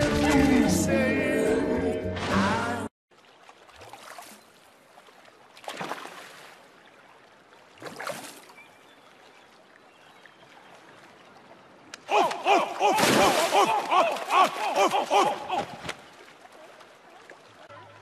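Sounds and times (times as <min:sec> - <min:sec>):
sea water lapping: 0:03.1 - 0:18.0.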